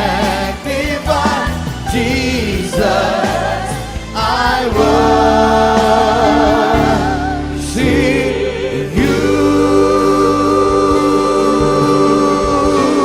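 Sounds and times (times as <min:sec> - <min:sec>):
instrumental backing: 0:00.0 - 0:13.0
voices singing held notes: 0:00.0 - 0:13.0.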